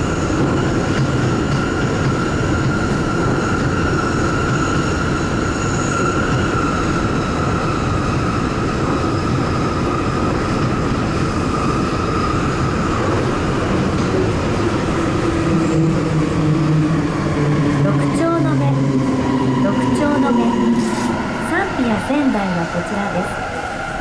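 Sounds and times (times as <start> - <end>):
train running rumble: 0.0 - 23.7.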